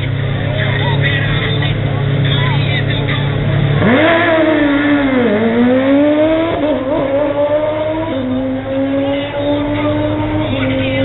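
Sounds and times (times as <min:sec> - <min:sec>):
motorcycle engine at full throttle: 0:00.0 - 0:11.0.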